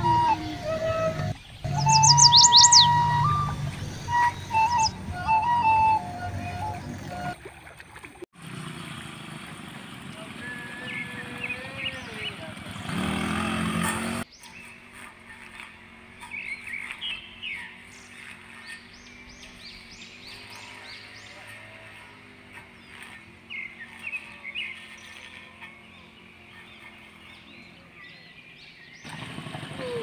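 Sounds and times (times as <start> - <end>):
small birds chirping: 0.0 - 5.6, 10.4 - 13.2, 14.2 - 30.0.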